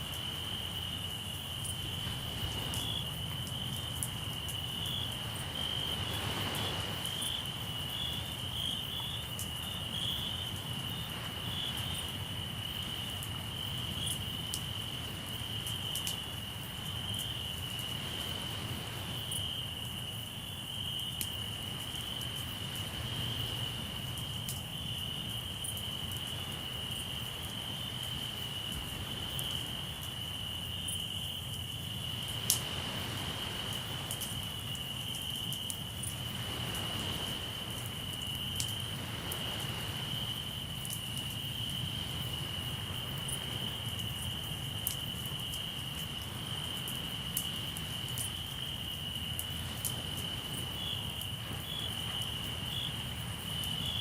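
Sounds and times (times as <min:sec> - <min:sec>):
campfire crackling: 0:00.0 - 0:54.0
crickets chirring: 0:00.0 - 0:54.0.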